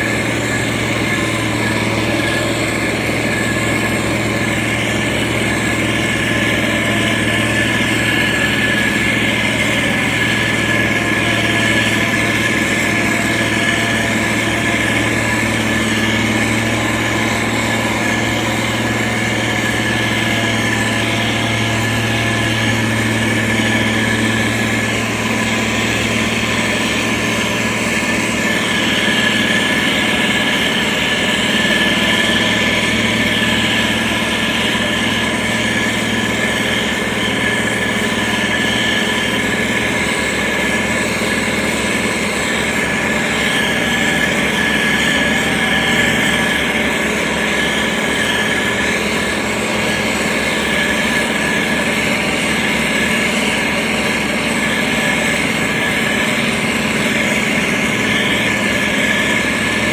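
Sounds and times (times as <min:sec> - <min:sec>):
diesel engine drone with whine: 0:00.0 - 0:59.9.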